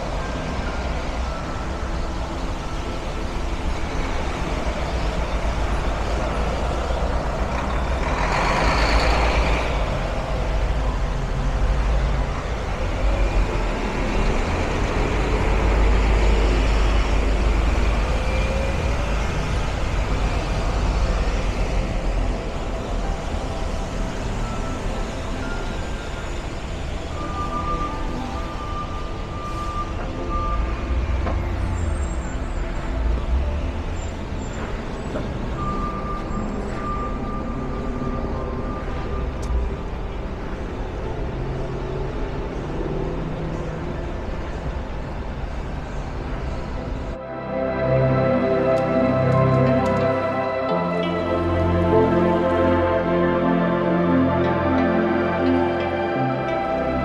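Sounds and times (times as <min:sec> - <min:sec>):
traffic rumble on wet roads: 0:00.0 - 0:57.0.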